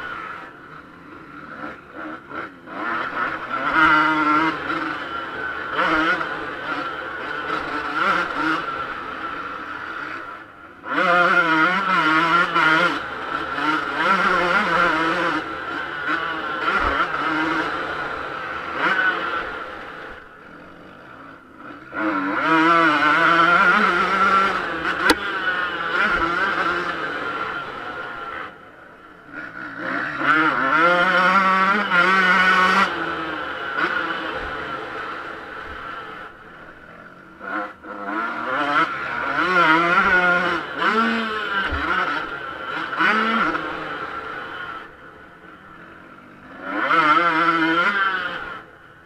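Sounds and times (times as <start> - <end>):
motocross engine revving: 0.0 - 49.0.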